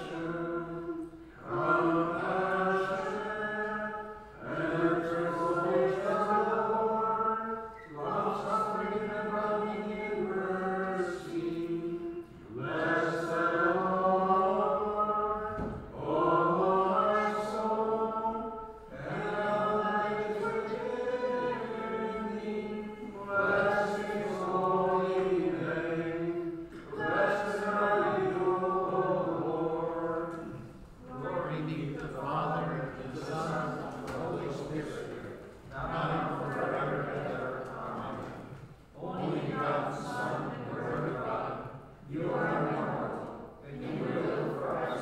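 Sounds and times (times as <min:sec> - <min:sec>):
liturgical chant: 0:00.0 - 0:45.0.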